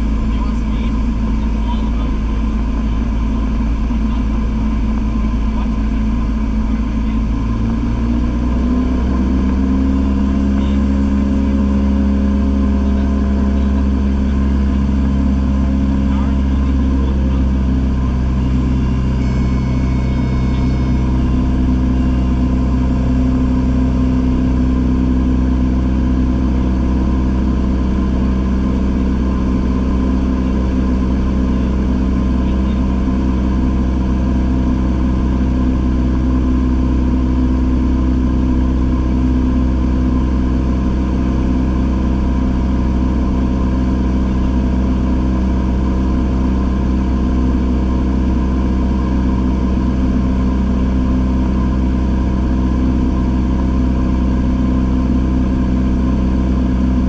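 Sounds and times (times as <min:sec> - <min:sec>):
airplane engine and propeller drone: 0:00.0 - 0:57.0.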